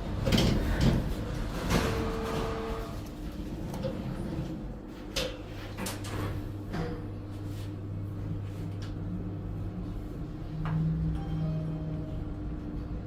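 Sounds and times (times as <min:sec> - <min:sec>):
elevator hum: 0:00.0 - 0:13.0.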